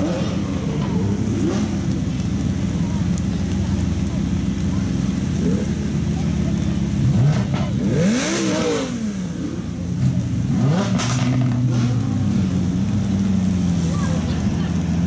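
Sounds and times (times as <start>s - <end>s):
car engines idling: 0.0s - 15.0s
engine revving: 0.0s - 15.0s.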